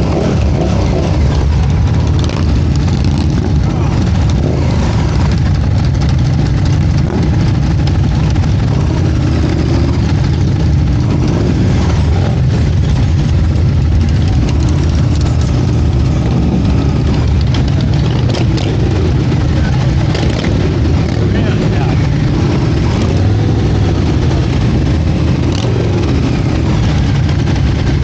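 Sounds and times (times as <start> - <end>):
motorcycle engine running: 0.0 - 28.0
faint voices: 0.4 - 7.0, 7.8 - 25.4.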